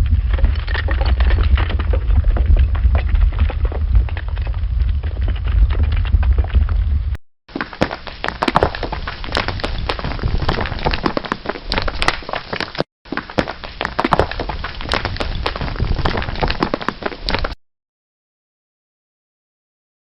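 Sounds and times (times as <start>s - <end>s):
stones clattering: 0.0s - 6.9s, 7.5s - 17.6s.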